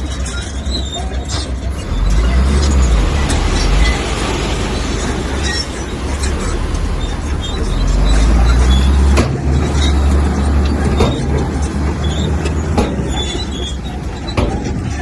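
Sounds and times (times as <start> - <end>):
bulldozer diesel engine rumbling: 0.0 - 15.0.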